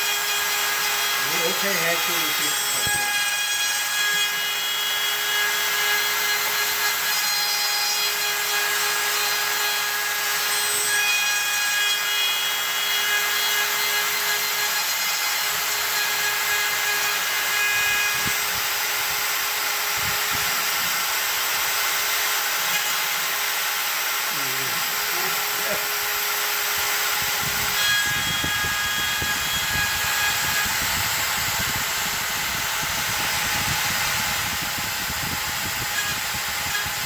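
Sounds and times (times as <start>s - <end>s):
cnc router milling whine: 0.0s - 37.0s.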